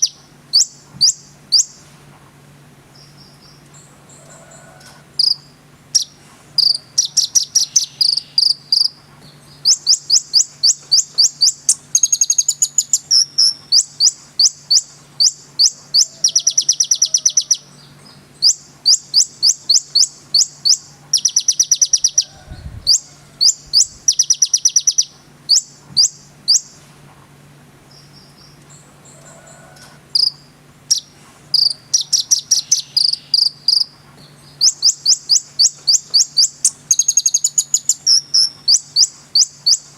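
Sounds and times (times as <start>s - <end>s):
bird singing trills: 0.0s - 1.9s, 5.2s - 26.8s, 27.9s - 39.9s
faint low hum: 0.0s - 39.9s.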